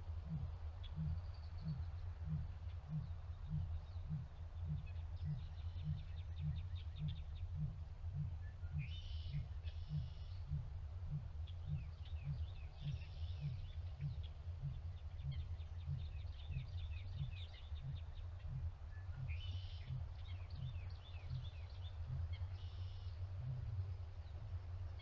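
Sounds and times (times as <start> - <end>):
pulsing low hum: 0.0 - 25.0
small birds chirping: 0.0 - 25.0.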